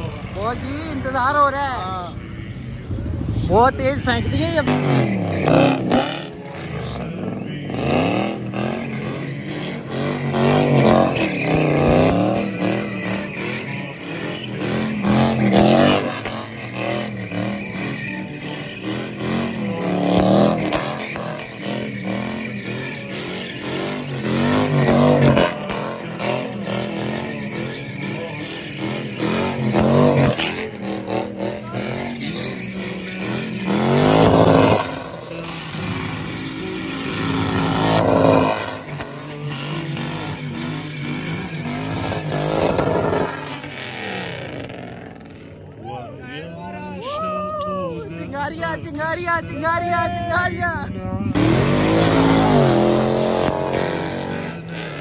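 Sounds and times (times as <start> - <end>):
car engine revving: 0.0 - 46.4, 48.0 - 55.0
tyres spinning on asphalt: 0.0 - 55.0.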